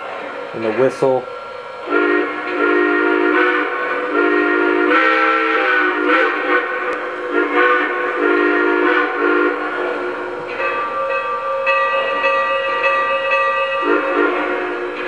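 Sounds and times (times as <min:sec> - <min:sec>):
steam whistle blasts: 0:01.8 - 0:15.0.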